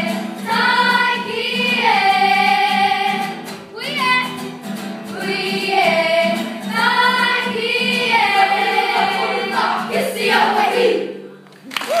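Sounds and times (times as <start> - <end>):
girls singing together: 0.0 - 4.4, 5.1 - 11.3.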